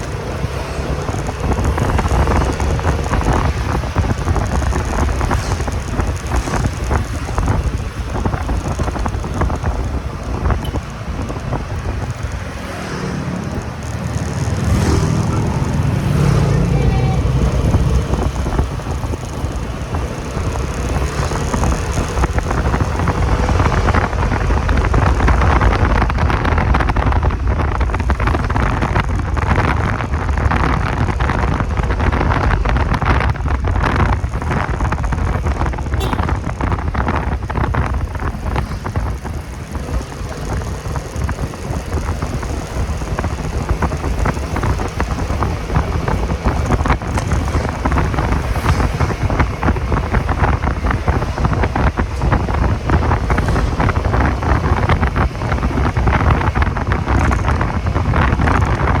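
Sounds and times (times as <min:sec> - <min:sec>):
motorcycle engine rumbling: 0:00.0 - 0:59.0
wind buffeting microphone: 0:00.0 - 0:59.0.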